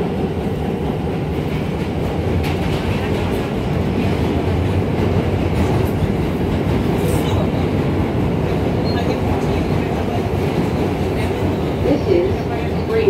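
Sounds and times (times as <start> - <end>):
subway car rumbling on rails: 0.0 - 13.0.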